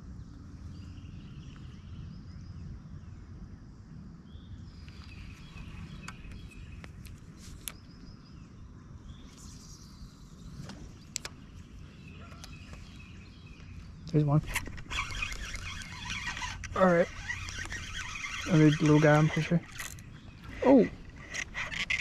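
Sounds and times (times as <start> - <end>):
birds chirping: 0.0 - 3.1, 4.3 - 22.0
low outdoor rumble: 0.0 - 22.0.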